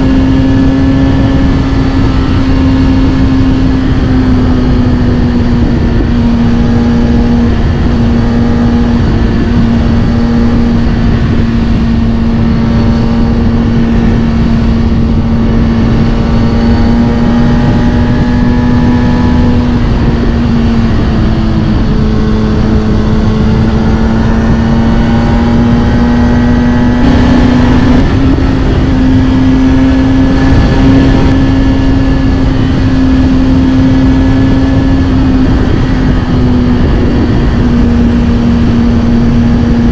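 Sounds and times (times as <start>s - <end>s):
constant low rush: 0.0s - 39.9s
motorcycle engine cruising: 0.0s - 39.9s.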